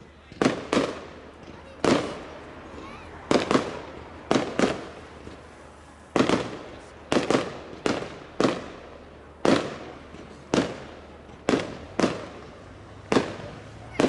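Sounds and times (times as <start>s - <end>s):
fireworks bangs with echo: 0.0s - 14.0s.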